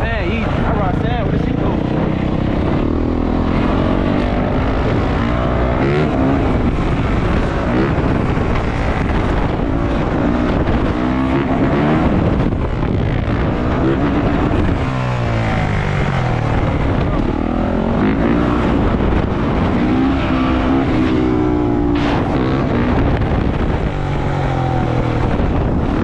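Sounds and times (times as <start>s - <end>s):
dirt bike engine revving: 0.0s - 26.0s
wind buffeting microphone: 0.0s - 26.0s.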